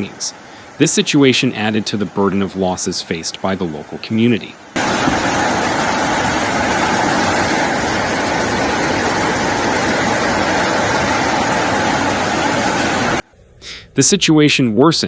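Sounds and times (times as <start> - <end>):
rushing water: 0.0 - 13.2.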